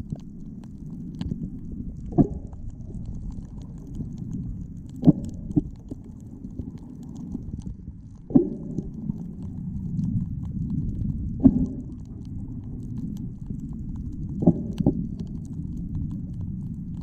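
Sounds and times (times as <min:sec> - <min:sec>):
underwater rumble of moving water: 0:00.0 - 0:17.0.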